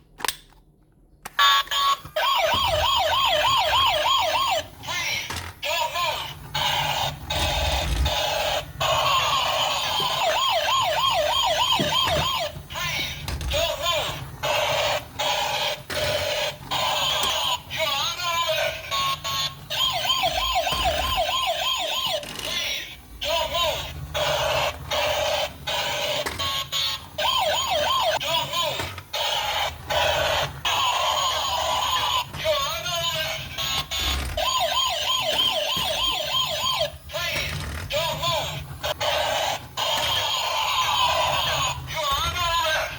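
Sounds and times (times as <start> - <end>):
toy siren warbling wail: 1.3 - 42.9.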